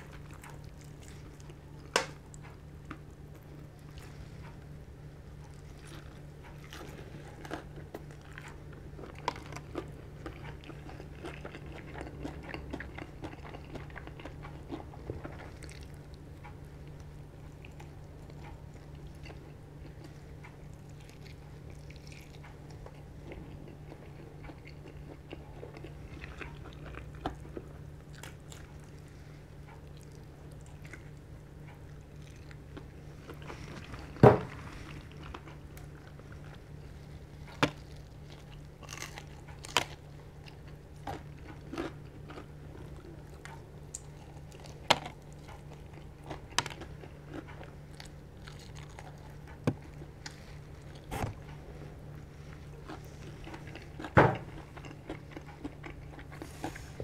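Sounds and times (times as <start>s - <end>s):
chewing crispy fried chicken: 0.0s - 57.0s.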